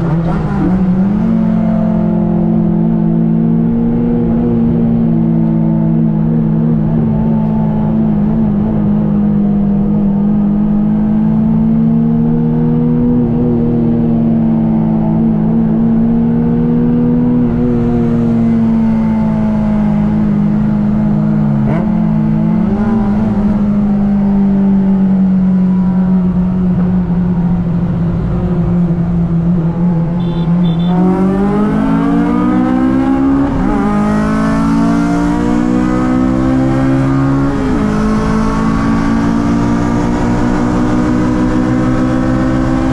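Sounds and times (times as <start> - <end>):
car engine accelerating: 0.0 - 42.9.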